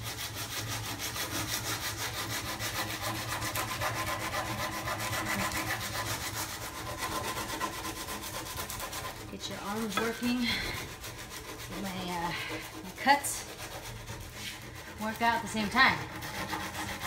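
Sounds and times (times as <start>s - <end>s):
sandpaper rubbing wood: 0.0s - 17.0s.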